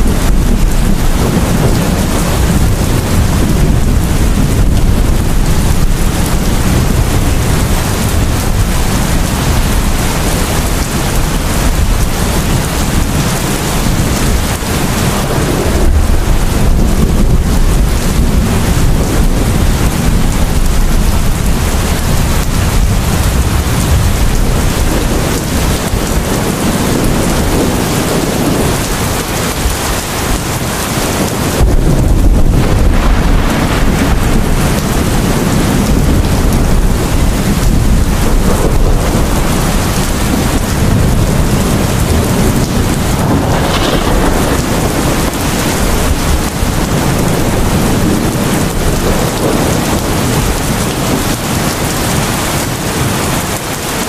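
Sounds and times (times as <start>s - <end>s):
heavy rain pouring: 0.0s - 54.0s
low rumble of thunder: 0.0s - 54.0s.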